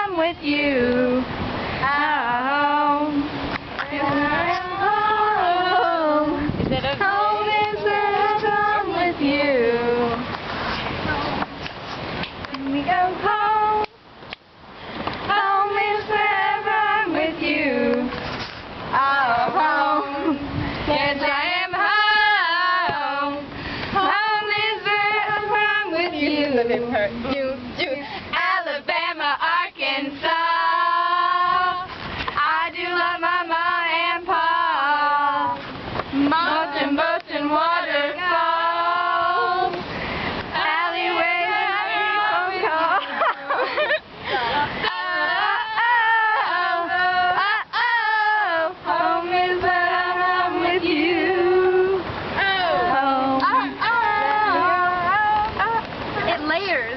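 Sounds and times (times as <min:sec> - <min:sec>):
woman singing with vibrato: 0:00.0 - 0:10.4, 0:12.4 - 0:14.1, 0:15.2 - 0:56.9.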